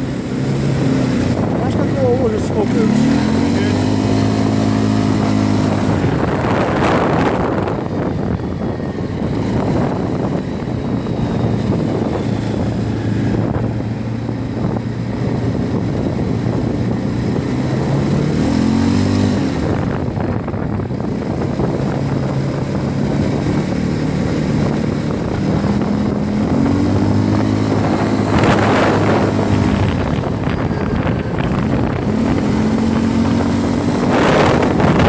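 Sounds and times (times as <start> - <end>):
quad bike engine running: 0.0 - 35.0.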